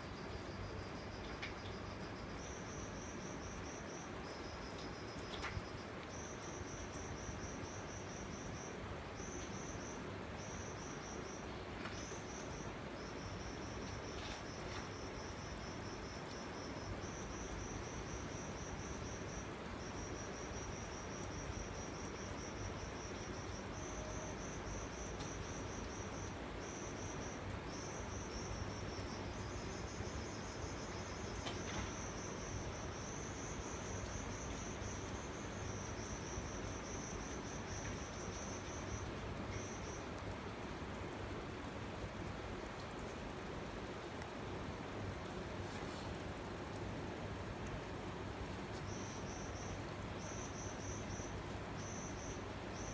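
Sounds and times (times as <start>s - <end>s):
insects trilling: 0.0s - 41.6s, 43.4s - 52.9s
steady hiss: 0.0s - 52.9s.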